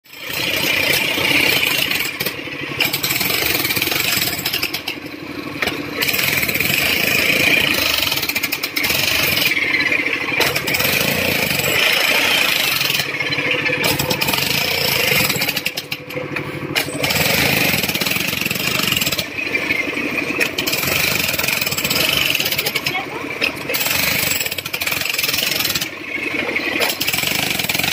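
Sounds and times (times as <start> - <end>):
demolition hammer breaking asphalt: 0.1 - 5.0, 5.6 - 27.9.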